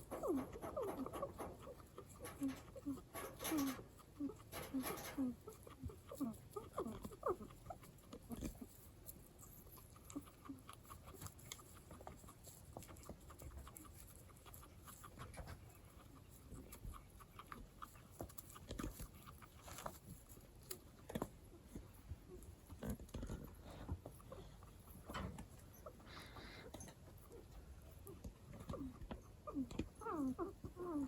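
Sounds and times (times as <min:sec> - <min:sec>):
small clicks and crunches: 0:00.0 - 0:25.7.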